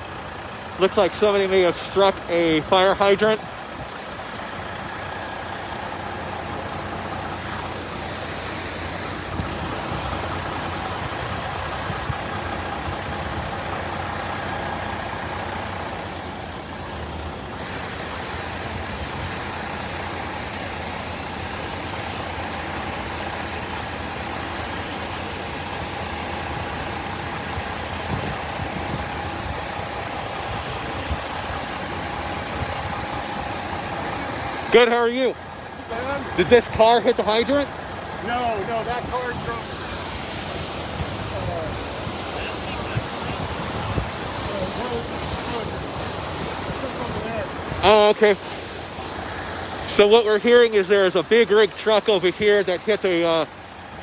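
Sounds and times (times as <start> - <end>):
vehicle engines idling: 0.0 - 54.0
water rushing from fire hydrant: 0.0 - 54.0.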